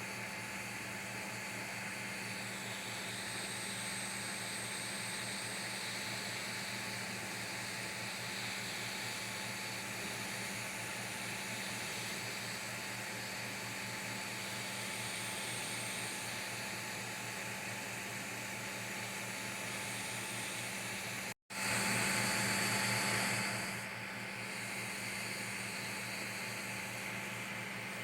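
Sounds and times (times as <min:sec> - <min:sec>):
printer fan whirring: 0:00.0 - 0:28.0.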